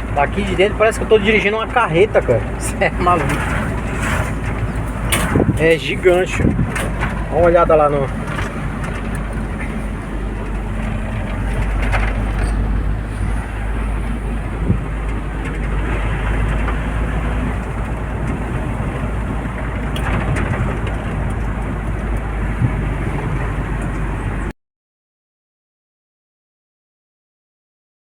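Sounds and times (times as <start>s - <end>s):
road noise: 0.0s - 24.5s
truck engine drone: 0.0s - 24.5s.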